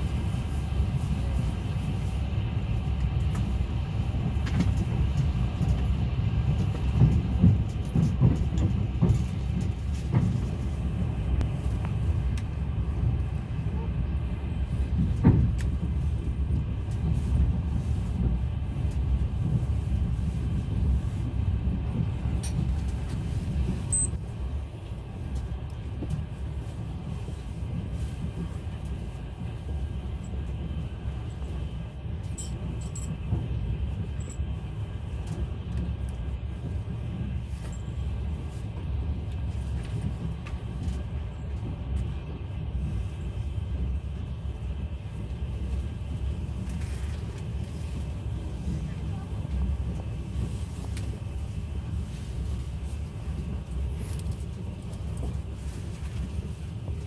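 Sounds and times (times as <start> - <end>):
passenger train rumbling on rails: 0.0 - 57.0.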